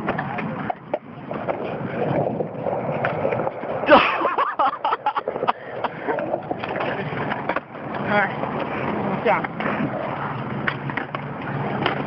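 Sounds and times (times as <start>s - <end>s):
skateboard clacks and knocks: 0.0s - 12.0s
skateboard rolling on wet concrete: 0.0s - 12.0s.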